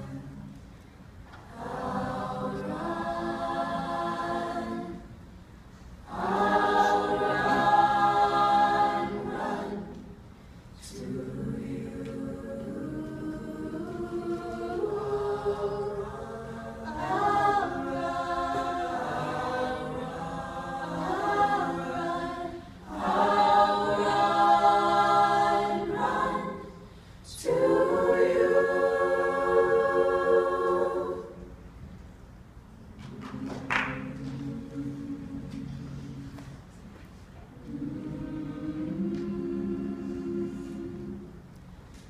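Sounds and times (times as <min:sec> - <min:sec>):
a cappella choir singing: 0:00.0 - 0:32.3, 0:32.9 - 0:42.0.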